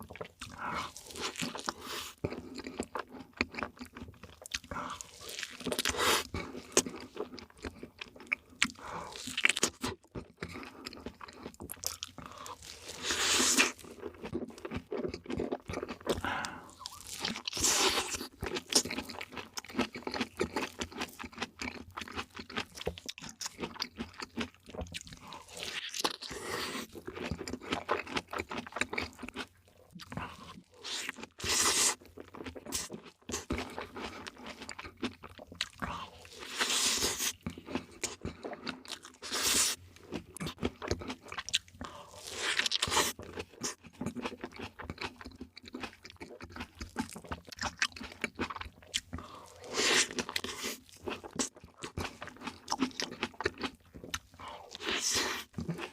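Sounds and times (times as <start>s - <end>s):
crunchy biting and chewing: 0.1s - 55.9s.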